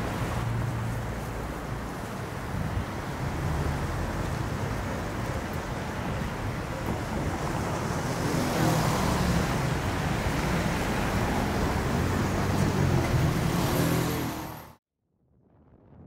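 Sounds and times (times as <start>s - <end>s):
cars driving past: 0.0s - 14.8s.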